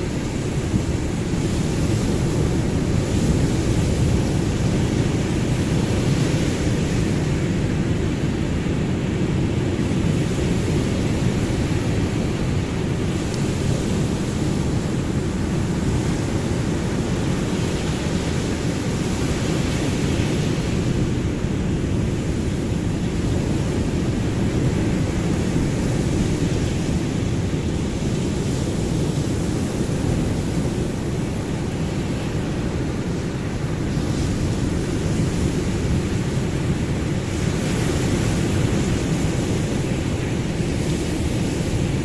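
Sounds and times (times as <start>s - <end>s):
ocean surf rushing: 0.0s - 42.0s.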